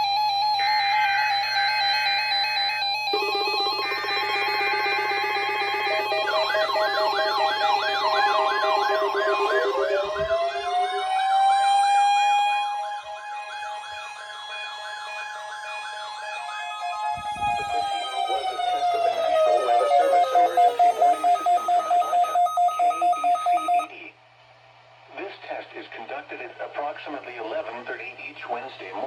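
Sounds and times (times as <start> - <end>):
electronic siren sweeping rapidly: 0.0 - 23.9
siren steady wail: 0.0 - 23.9.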